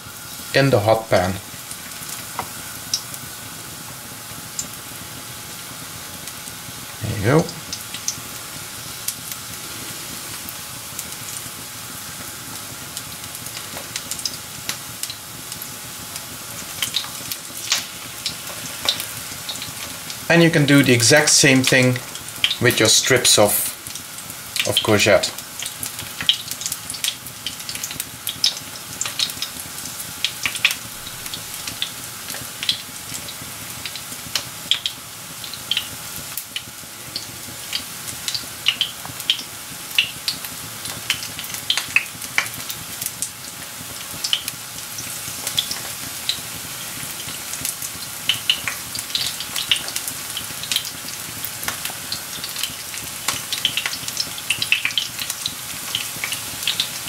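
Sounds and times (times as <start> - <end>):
frying in hot oil: 0.0 - 57.0.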